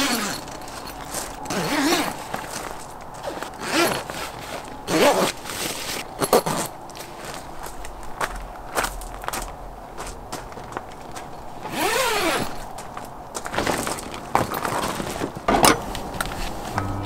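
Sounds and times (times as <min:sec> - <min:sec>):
camping gear clicks and knocks: 0:00.0 - 0:08.0, 0:10.4 - 0:16.6
footsteps on gravel: 0:00.3 - 0:11.8, 0:12.5 - 0:16.8.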